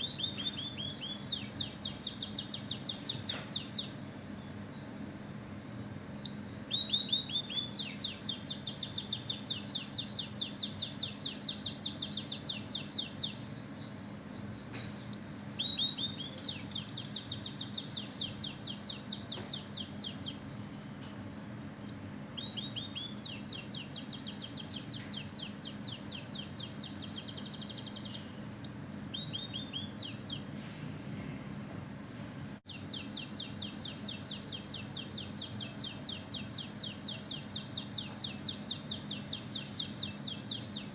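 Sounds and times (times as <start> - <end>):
bird singing whistles and trills: 0.0 - 30.9, 32.6 - 40.9
faint steady hum: 0.0 - 40.9.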